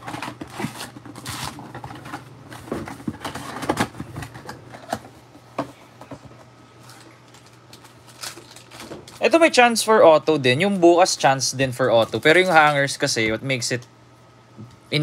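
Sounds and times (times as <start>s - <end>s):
card packs rustling: 0.0s - 10.0s, 10.6s - 13.2s.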